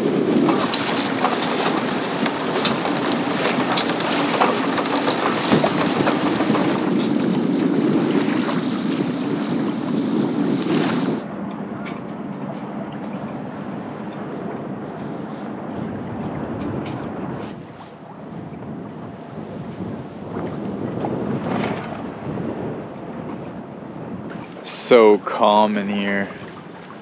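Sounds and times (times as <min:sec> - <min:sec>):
water splashing against hull: 0:00.0 - 0:27.0
wind buffeting microphone: 0:00.0 - 0:27.0.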